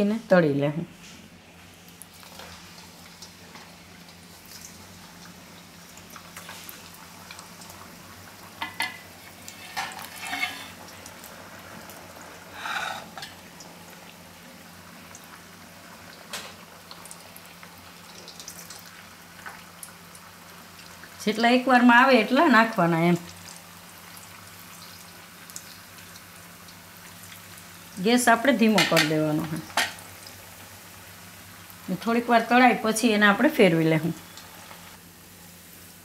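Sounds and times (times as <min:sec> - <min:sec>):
food sizzling in hot oil: 0:01.2 - 0:36.0.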